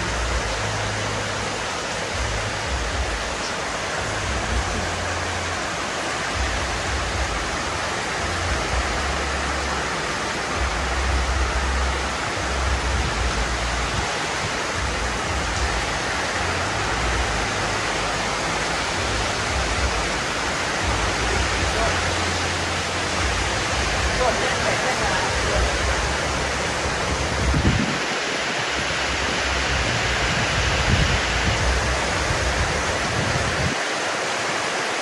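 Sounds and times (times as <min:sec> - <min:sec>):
wind buffeting microphone: 0:00.0 - 0:34.2
heavy rain hissing: 0:00.0 - 0:35.0.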